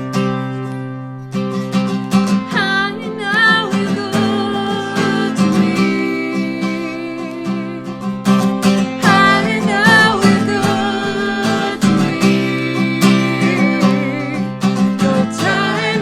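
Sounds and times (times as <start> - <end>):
strummed acoustic guitar: 0.0 - 16.0
person singing: 1.8 - 16.0.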